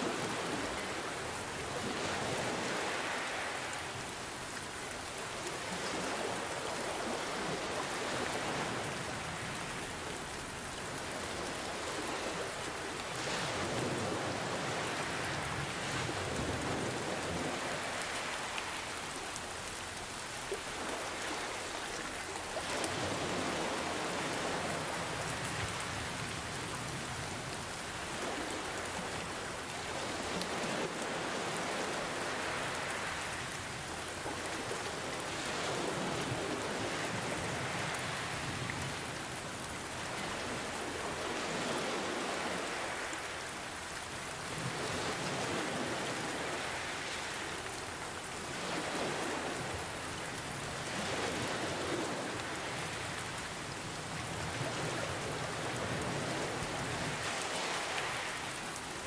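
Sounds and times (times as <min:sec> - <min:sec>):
gentle ocean waves: 0:00.0 - 0:59.0
steady rain: 0:00.0 - 0:59.0.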